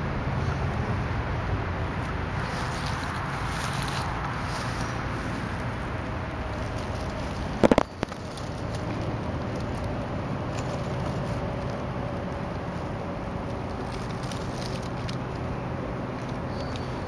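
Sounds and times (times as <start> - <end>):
faint steady hum: 0.0 - 17.0
outdoor background noise: 0.0 - 17.0.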